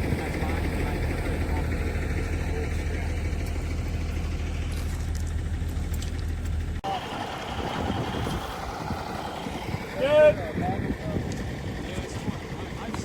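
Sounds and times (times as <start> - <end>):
rough noisy rumble: 0.0 - 13.0
vehicle engine humming: 0.0 - 13.0.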